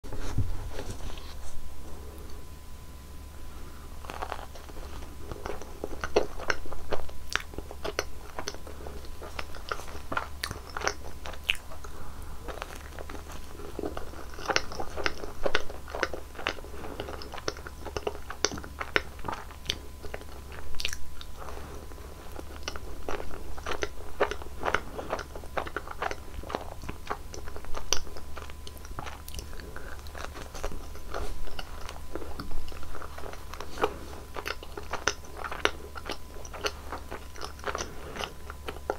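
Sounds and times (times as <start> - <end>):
faint low hum: 0.0 - 38.9
crisp biting and chewing: 4.0 - 38.9.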